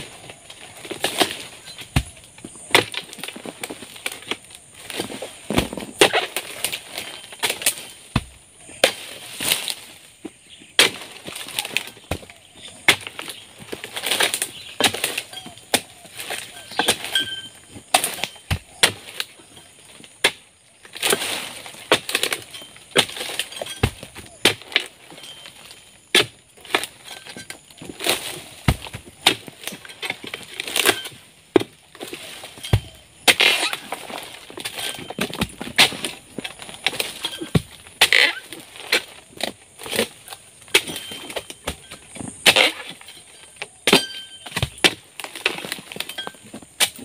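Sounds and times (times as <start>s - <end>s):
palm fronds rustling: 0.0s - 47.0s.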